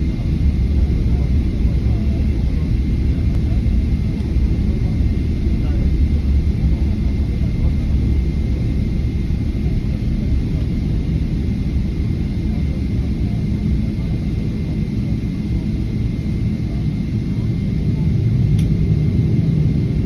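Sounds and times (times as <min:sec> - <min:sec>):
jet engines deep rumble: 0:00.0 - 0:20.0.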